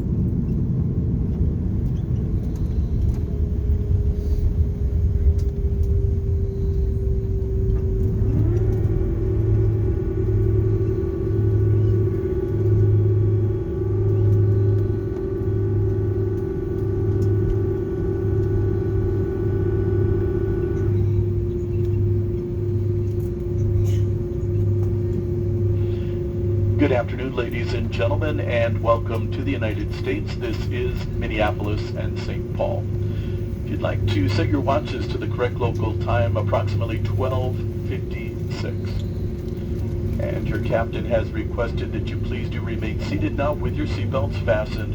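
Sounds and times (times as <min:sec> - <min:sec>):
jet engine whine: 0:00.0 - 0:44.9
low cabin rumble: 0:00.0 - 0:44.9.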